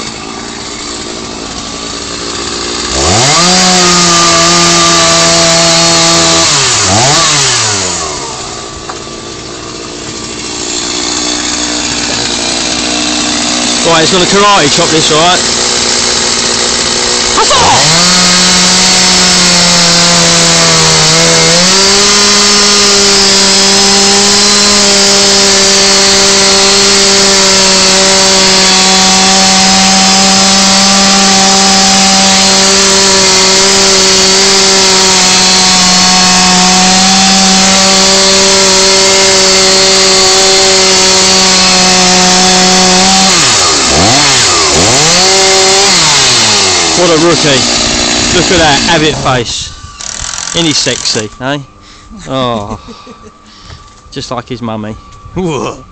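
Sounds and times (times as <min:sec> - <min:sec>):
chainsaw cutting timber: 0:00.0 - 0:55.9.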